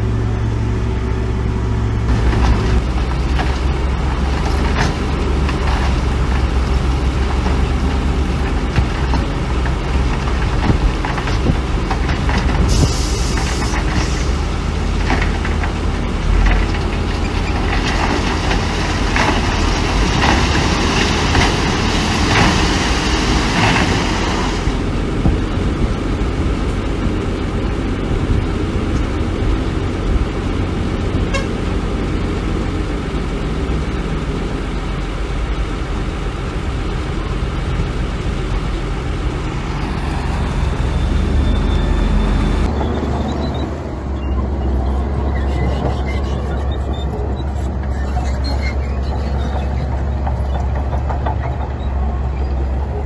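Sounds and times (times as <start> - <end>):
diesel machinery rumbling: 0.0 - 53.0.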